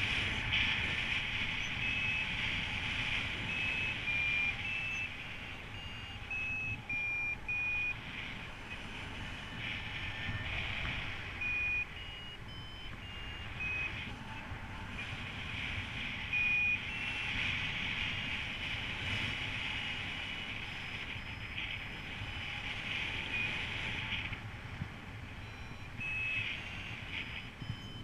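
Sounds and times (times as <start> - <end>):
variometer beeping: 0.0 - 28.0
wind on microphone: 0.0 - 28.0.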